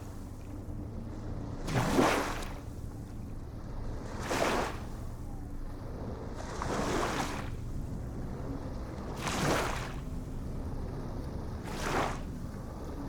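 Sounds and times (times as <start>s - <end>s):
low rumble of surf: 0.0s - 13.0s.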